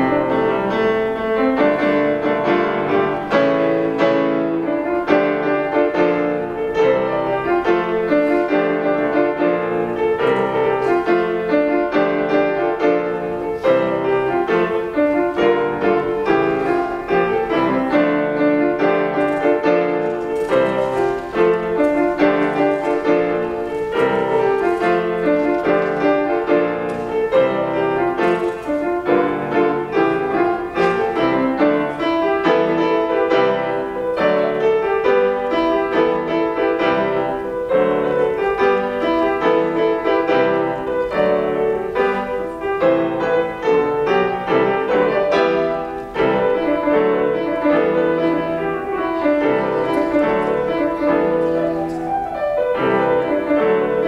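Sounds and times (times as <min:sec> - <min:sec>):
solo piano playing fast: 0:00.0 - 0:54.0.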